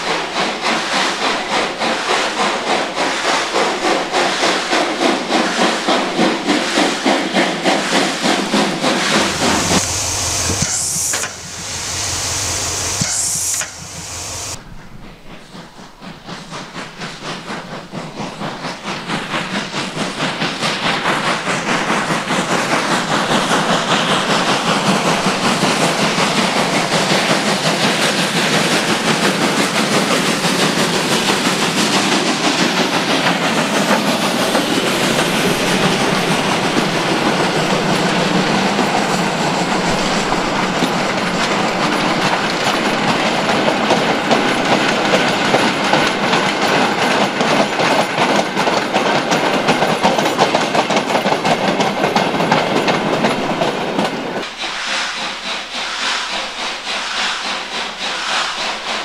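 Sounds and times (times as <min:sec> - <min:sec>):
loud steam hiss: 0:00.0 - 0:59.0
steam locomotive chuffing: 0:00.0 - 0:59.0.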